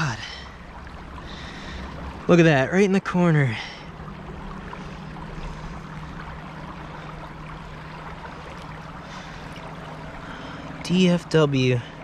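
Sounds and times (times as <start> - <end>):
low steady hum: 0.0 - 12.0
river water over rocks: 0.0 - 12.0.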